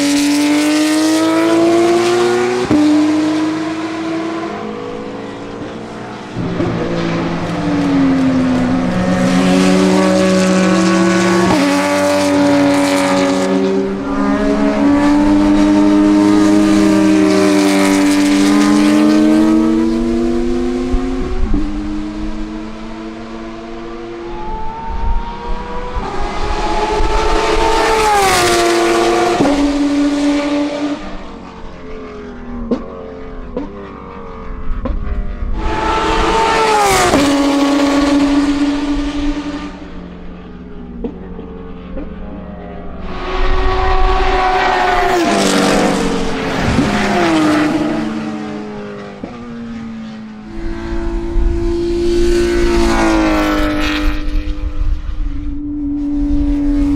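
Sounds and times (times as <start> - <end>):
other racing car engines: 0.0 - 56.9
racing car engine passing: 0.0 - 56.9.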